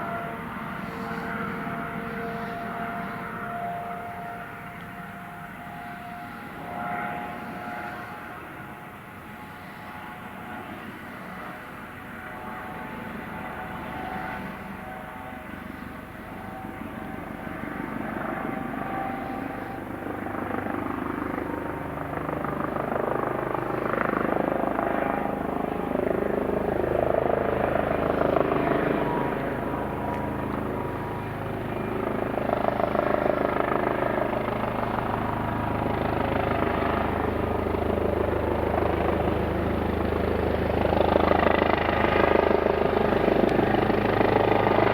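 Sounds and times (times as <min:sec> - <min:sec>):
helicopter rotor and engine whine: 0:00.0 - 0:44.9.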